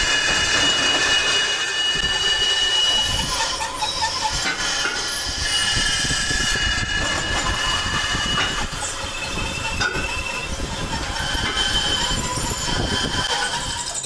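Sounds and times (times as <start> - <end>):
boring machine cutting metal: 0.0 - 14.0
high whining tones: 0.0 - 14.0.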